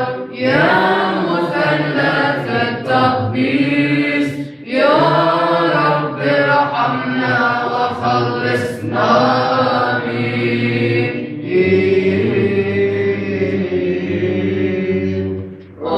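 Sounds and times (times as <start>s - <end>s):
church chant singing: 0.0s - 15.9s.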